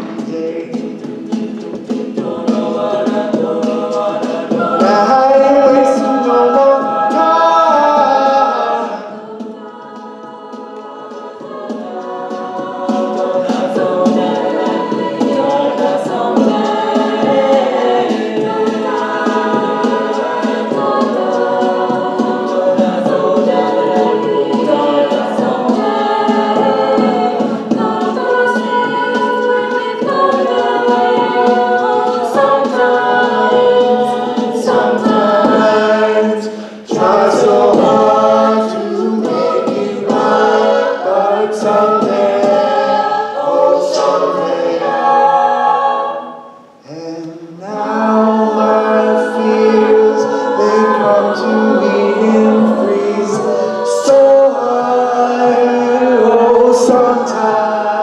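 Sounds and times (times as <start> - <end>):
a cappella group singing: 0.0 - 58.0.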